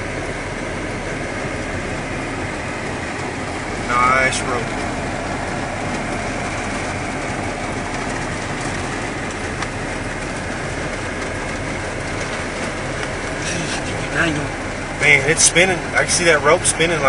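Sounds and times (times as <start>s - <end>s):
truck engine running inside cab: 0.0s - 17.0s.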